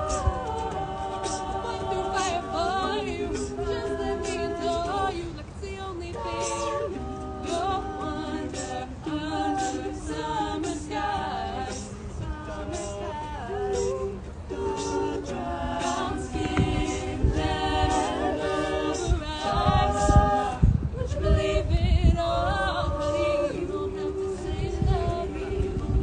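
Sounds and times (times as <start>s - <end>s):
a cappella group singing in harmony: 0.0s - 26.0s.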